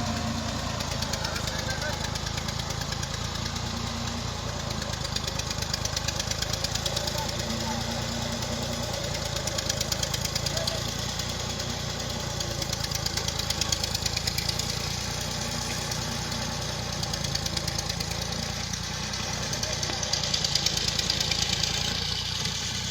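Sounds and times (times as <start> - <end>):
tractor engine clattering: 0.0 - 22.9.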